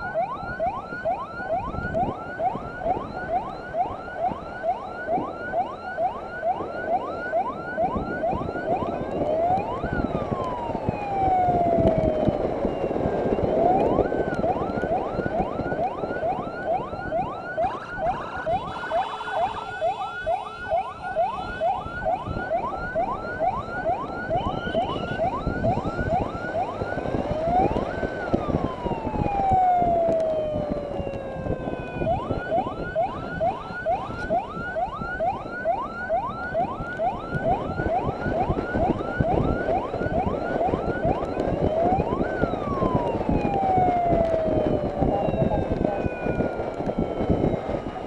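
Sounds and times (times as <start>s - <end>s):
electronic siren yelping and wailing: 0.0s - 48.0s
wind and road noise: 0.0s - 48.0s.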